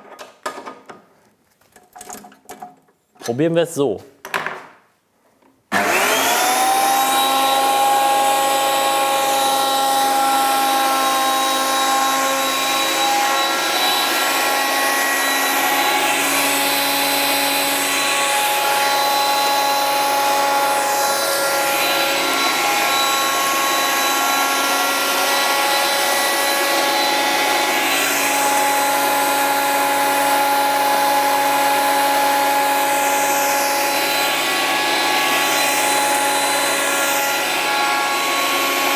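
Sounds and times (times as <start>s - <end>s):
cutterhead planing board: 5.7s - 38.9s
planer motor whine: 5.7s - 38.9s.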